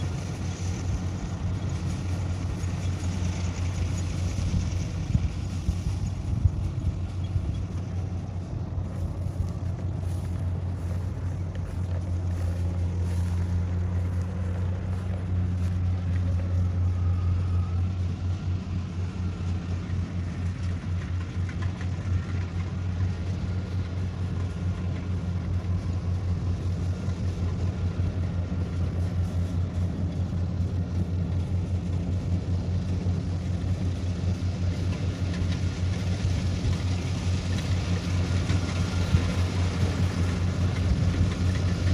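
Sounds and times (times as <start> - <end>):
combine harvester engine running: 0.0 - 41.9.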